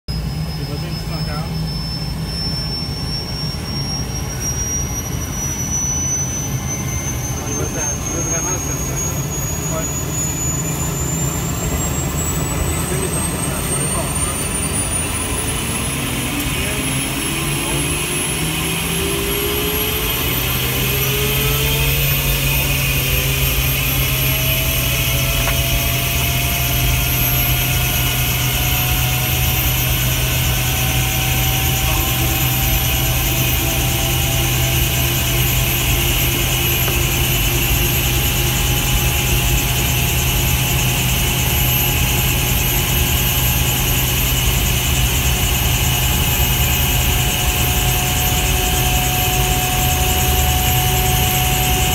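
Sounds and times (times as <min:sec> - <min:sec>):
turbine engine whine: 0:00.0 - 0:51.9
steady low drone: 0:00.1 - 0:51.9.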